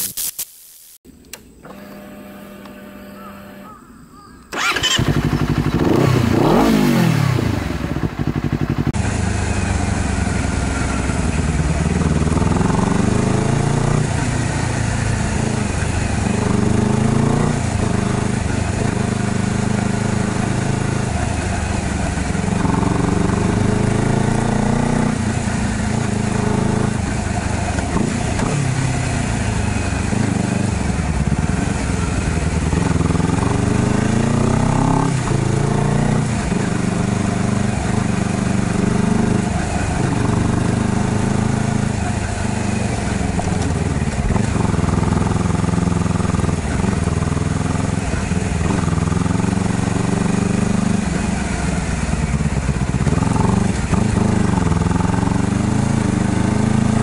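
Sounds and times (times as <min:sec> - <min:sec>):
motorcycle engine revving: 0:01.6 - 0:03.9, 0:04.5 - 0:57.0.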